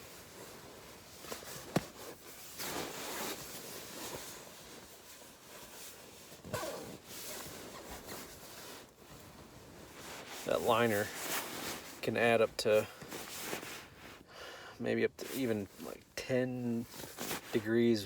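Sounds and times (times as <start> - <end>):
fabric rustling: 0.0 - 14.2, 16.8 - 17.8.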